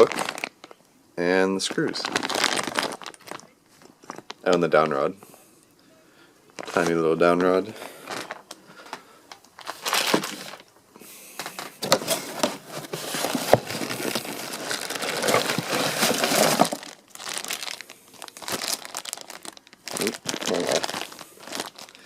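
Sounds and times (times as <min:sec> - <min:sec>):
packaging crinkling: 0:00.0 - 0:00.8, 0:01.5 - 0:05.1, 0:06.6 - 0:10.7, 0:11.4 - 0:22.0.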